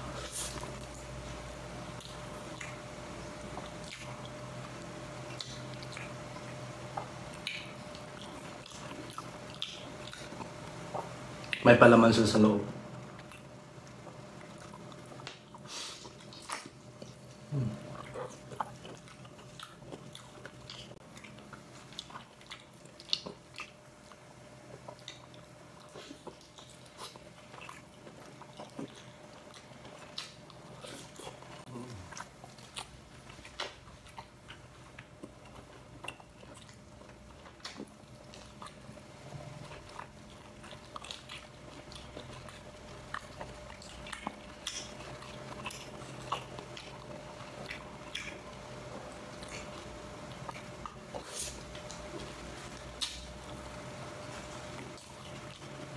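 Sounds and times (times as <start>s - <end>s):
man chewing: 0.0s - 11.7s, 12.4s - 55.9s
faint steady hum: 0.0s - 55.9s.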